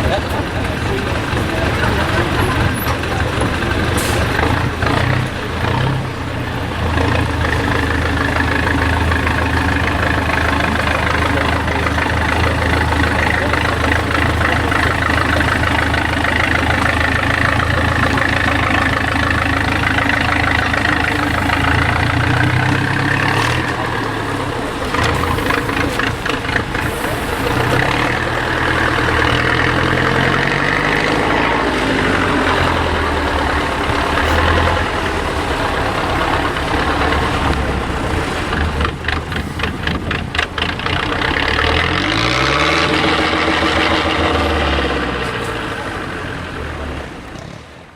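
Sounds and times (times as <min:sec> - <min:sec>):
truck diesel engine revving: 0:00.0 - 0:47.9.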